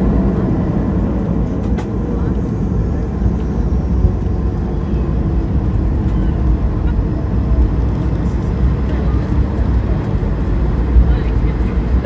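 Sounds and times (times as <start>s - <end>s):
jet engines running: 0.0s - 12.0s
wheels rumbling on taxiway: 0.0s - 12.0s.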